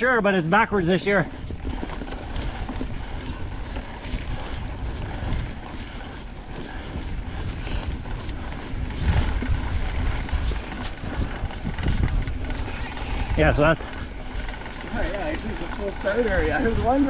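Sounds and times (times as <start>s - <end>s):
tyres rolling on dirt trail: 0.0s - 17.0s
wind buffeting microphone: 0.0s - 17.0s
bike clicks and rattles: 0.7s - 17.0s.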